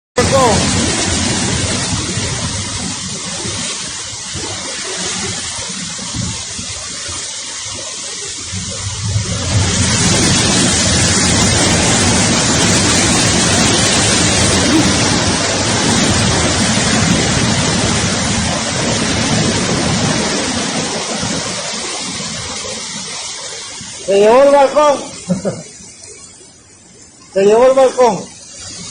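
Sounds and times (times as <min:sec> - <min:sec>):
heavy rain pouring: 0:00.2 - 0:28.9.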